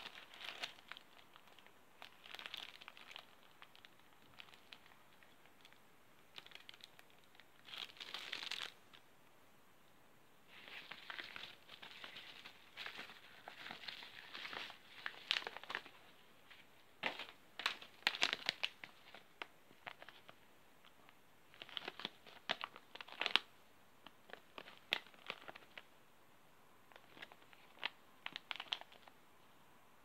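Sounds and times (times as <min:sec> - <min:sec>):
plastic packets crinkling: 0:00.0 - 0:09.0, 0:10.5 - 0:20.4, 0:21.5 - 0:25.9, 0:26.9 - 0:29.1.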